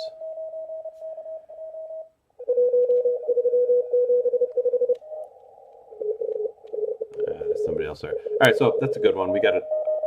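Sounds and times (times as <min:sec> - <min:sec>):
morse code signals: 0:00.0 - 0:10.0.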